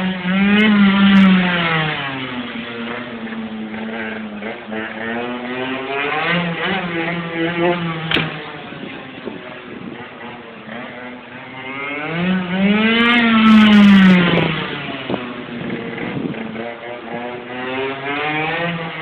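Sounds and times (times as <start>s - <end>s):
minibike engine revving: 0.0s - 19.0s.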